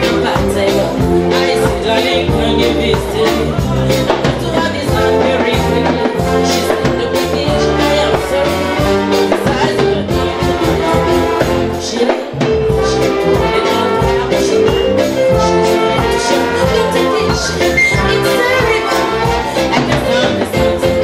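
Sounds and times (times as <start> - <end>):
live band with brass horns: 0.0 - 21.0
person singing: 0.0 - 21.0.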